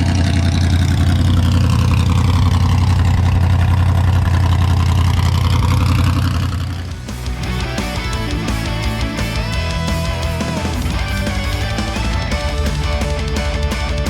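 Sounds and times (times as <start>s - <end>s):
car engine idling rumble: 0.0s - 14.0s.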